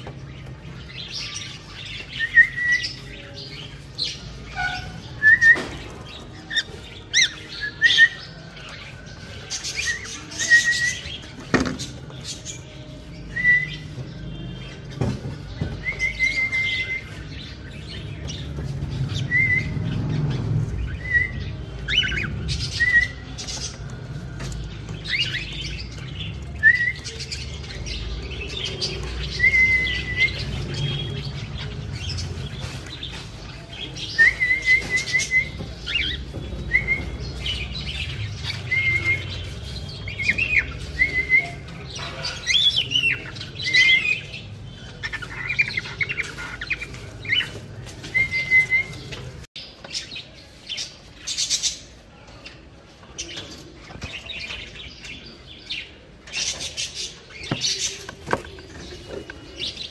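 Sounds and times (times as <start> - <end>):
cockatiels chirping: 0.3 - 20.0, 20.7 - 52.6.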